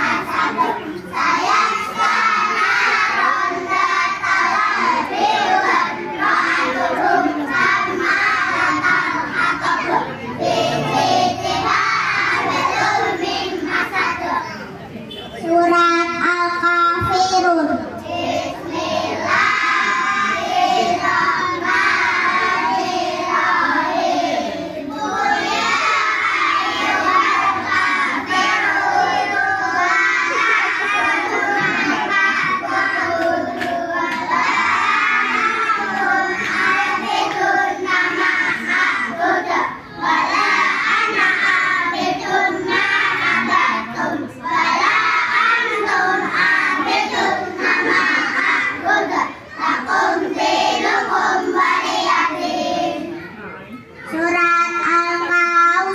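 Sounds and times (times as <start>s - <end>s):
children singing through loudspeaker: 0.0s - 55.9s.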